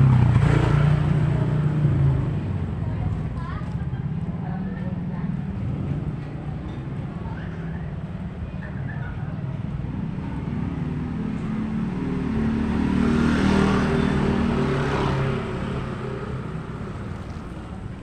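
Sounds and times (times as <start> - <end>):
motor scooters passing by: 0.0 - 18.0.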